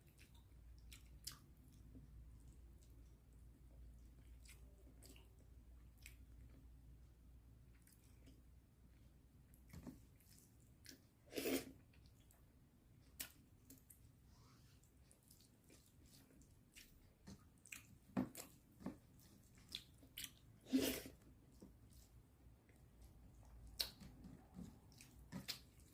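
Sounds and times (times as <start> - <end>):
person chewing food: 0.0 - 6.8, 7.6 - 14.1, 14.8 - 25.9.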